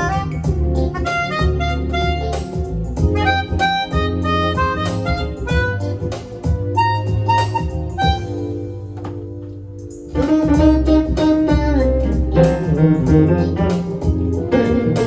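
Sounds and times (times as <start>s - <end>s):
bass line: 0.0s - 15.0s
instrumental music: 0.0s - 15.0s.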